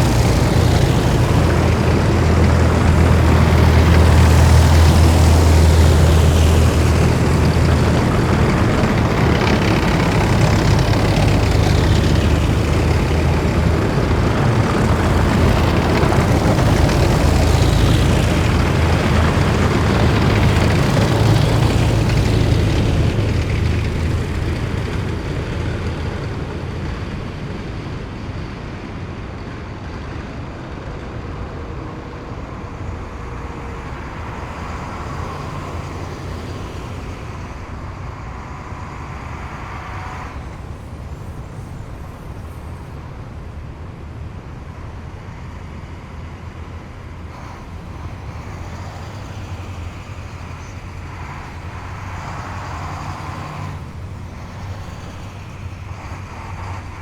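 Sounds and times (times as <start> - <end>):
distant low engine rumble: 0.0 - 57.0
heavy vehicle engine passing: 0.0 - 57.0.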